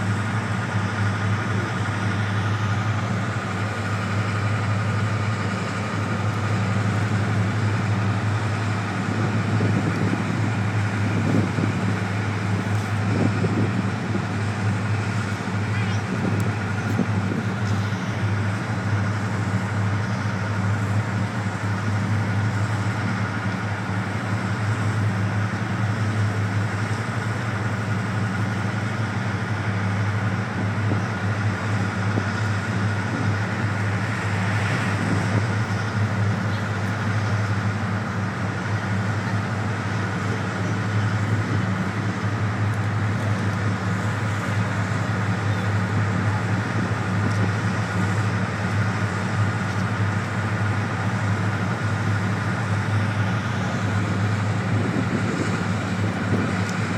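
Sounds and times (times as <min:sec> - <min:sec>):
diesel locomotive engines idling: 0:00.0 - 0:56.9.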